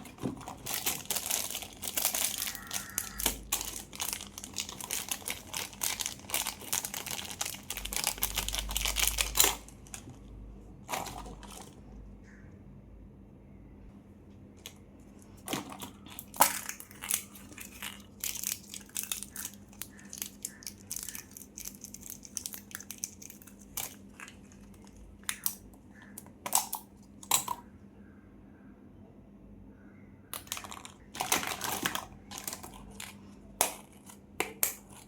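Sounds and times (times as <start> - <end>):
plastic wrappers crinkling: 0.0 - 11.9, 14.7 - 26.8, 30.4 - 35.0.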